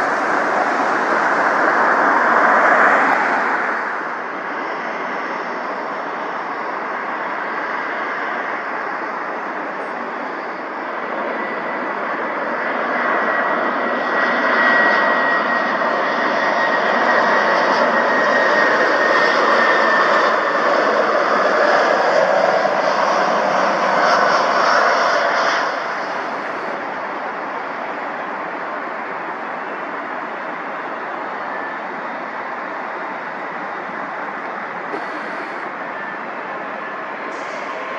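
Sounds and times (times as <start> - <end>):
jet engines roaring: 0.0 - 37.9.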